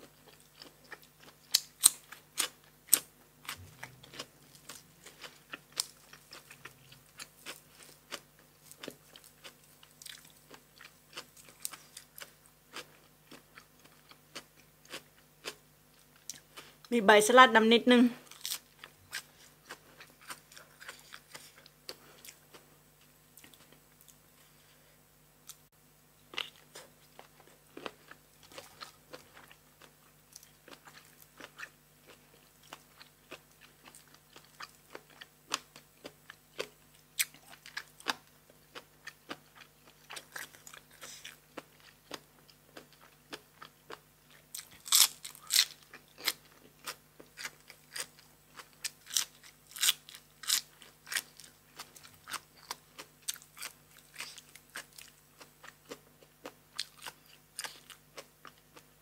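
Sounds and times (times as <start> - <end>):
person chewing crunchy food: 0.0 - 16.9, 18.2 - 24.8, 26.3 - 59.0.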